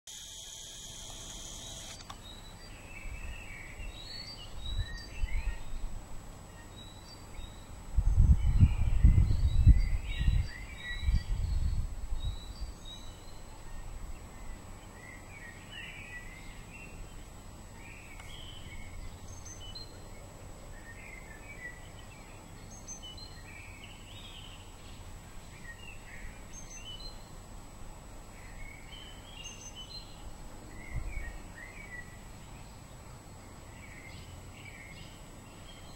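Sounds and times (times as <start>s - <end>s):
small birds chirping: 0.1s - 27.4s, 28.2s - 35.9s.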